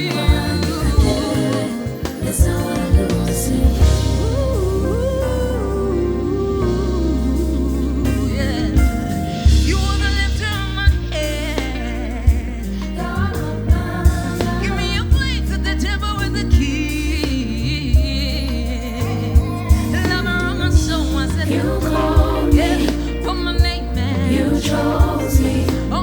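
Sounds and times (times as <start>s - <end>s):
bass: 0.0s - 26.0s
person singing with vibrato: 0.0s - 26.0s.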